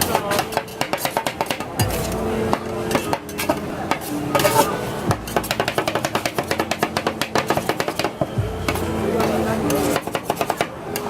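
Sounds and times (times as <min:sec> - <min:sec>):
metal spatulas scraping steel plate: 0:00.0 - 0:11.0.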